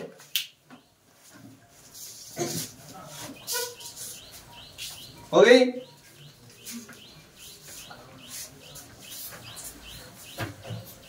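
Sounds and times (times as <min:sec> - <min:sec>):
small birds chirping: 0:00.4 - 0:11.0.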